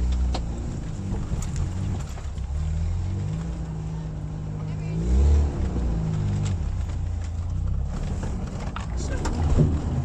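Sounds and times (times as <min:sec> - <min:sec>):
car engine running under load: 0:00.0 - 0:10.0.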